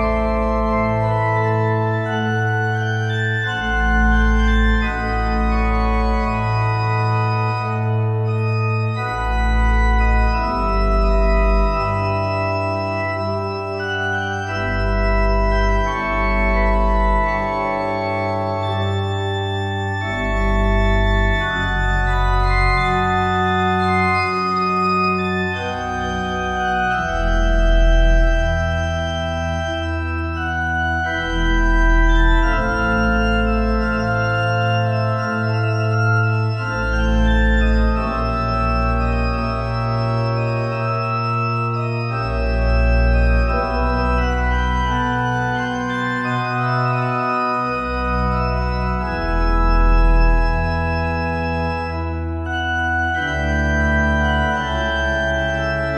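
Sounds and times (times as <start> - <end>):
deep organ pedal bass notes: 0.0 - 55.9
organ playing sustained chords: 0.0 - 55.9.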